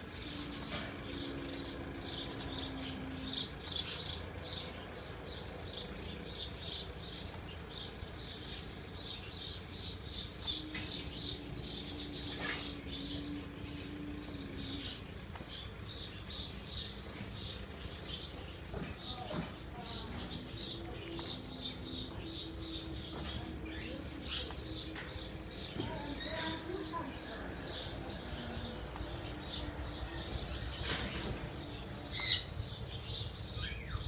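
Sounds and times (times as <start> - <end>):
birds chirping: 0.0 - 34.0
low steady hum: 0.0 - 34.0.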